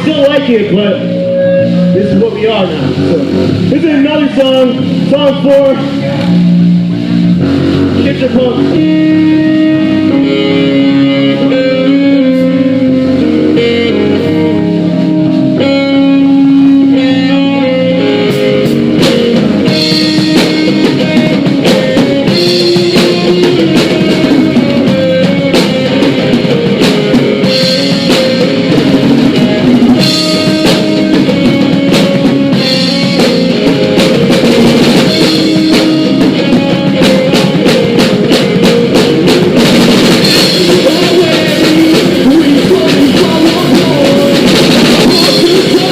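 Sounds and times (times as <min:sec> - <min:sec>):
drums: 0:00.0 - 0:45.9
electric guitar: 0:00.0 - 0:45.9
live rock band playing: 0:00.0 - 0:45.9.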